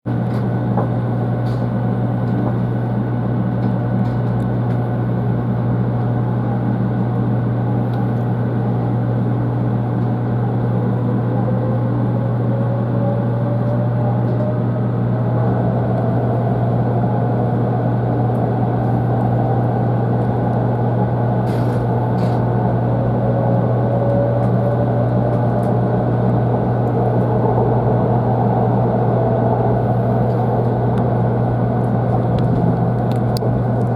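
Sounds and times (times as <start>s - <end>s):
train cabin rumble and hum: 0.0s - 33.9s
traction motor whine: 4.1s - 33.9s.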